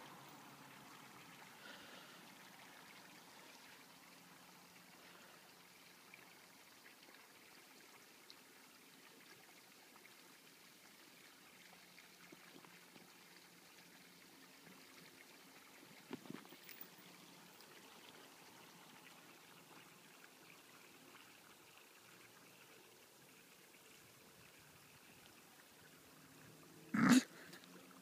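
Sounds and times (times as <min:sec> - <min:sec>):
faint outdoor hiss: 0:00.0 - 0:28.0.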